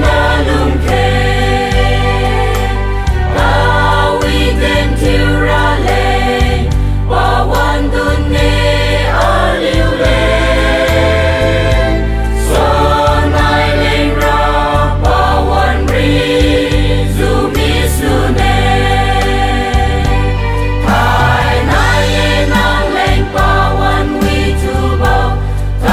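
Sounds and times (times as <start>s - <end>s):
choir singing a hymn: 0.0s - 25.9s
low instrumental accompaniment: 0.0s - 25.9s.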